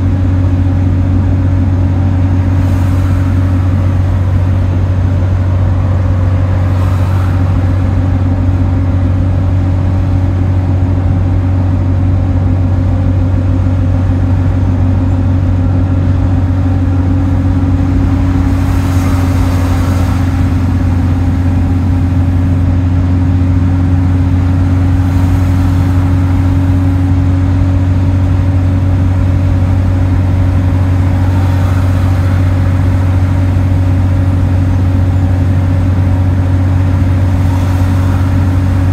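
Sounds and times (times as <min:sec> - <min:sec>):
bus engine drone: 0:00.0 - 0:38.9
road noise: 0:00.0 - 0:38.9
rush of noise: 0:00.0 - 0:38.9.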